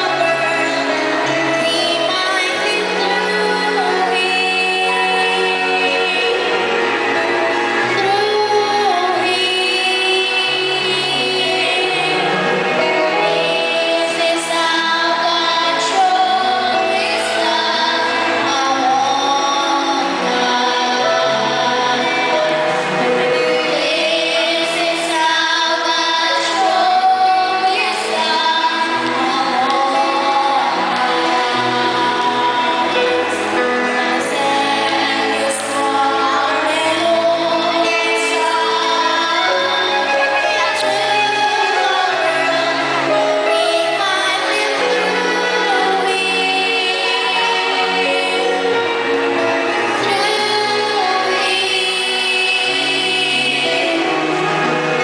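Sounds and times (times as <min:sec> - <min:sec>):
children singing into microphones: 0:00.0 - 0:55.0
musical accompaniment: 0:00.0 - 0:55.0.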